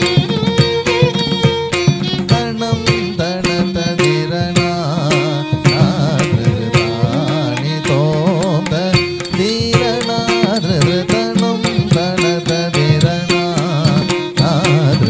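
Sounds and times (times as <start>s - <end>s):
ornamented melody: 0.0s - 15.0s
sharp percussion strokes: 0.0s - 15.0s.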